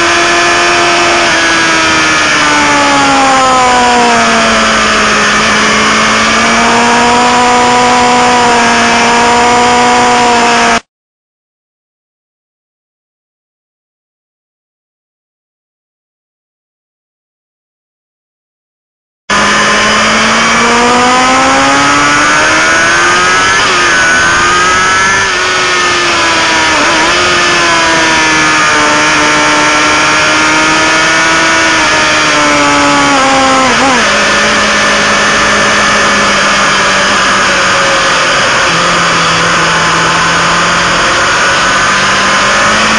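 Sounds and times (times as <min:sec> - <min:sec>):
motorcycle engine revving: 0:00.0 - 0:10.9, 0:19.3 - 0:42.9.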